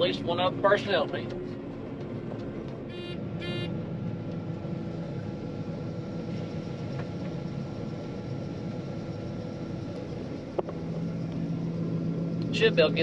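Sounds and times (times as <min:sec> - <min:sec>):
combine engine hum: 0:00.0 - 0:13.0.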